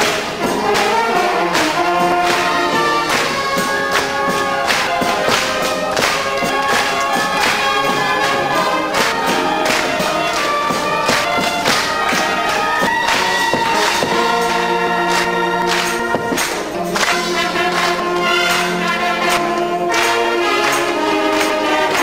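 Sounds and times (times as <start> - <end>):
percussion steady beat: 0.0 - 22.0
wind band playing: 0.0 - 22.0.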